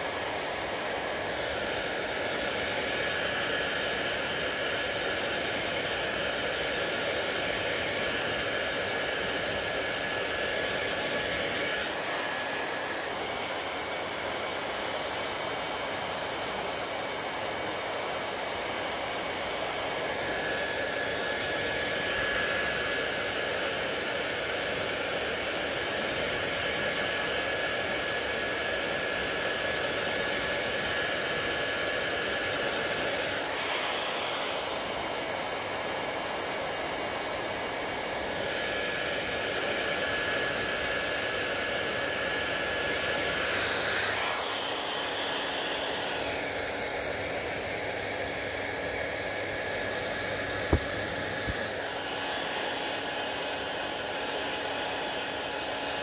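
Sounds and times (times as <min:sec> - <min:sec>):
hair dryer blowing: 0:00.0 - 0:56.0.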